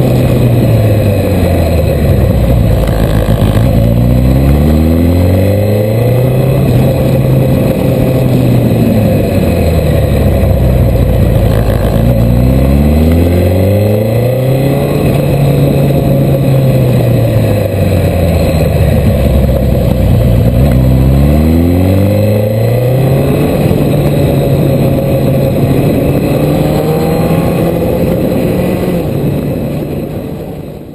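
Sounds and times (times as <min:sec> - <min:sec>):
motorcycle engine accelerating: 0:00.0 - 0:30.9.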